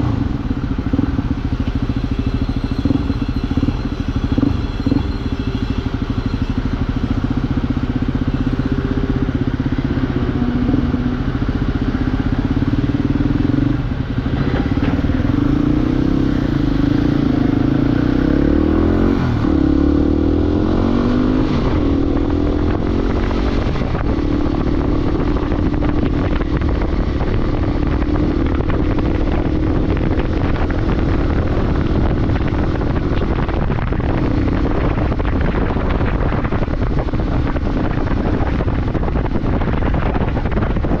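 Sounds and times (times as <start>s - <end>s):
constant rushing noise: 0.0s - 41.0s
motorcycle engine running: 0.0s - 41.0s.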